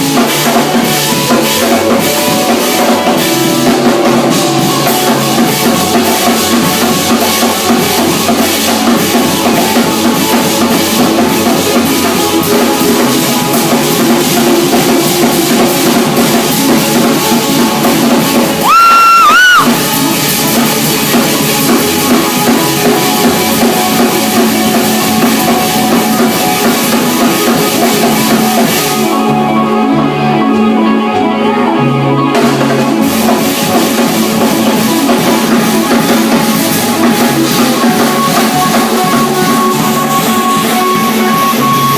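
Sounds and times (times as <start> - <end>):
loud high steady tone: 0.0 - 30.9, 32.5 - 41.9
rock music with drums and guitar: 0.0 - 41.9.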